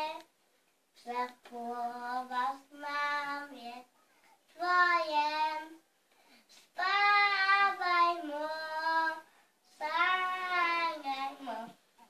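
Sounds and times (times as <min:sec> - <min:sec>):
girl singing: 0:00.0 - 0:00.3, 0:01.0 - 0:05.9, 0:06.5 - 0:12.0.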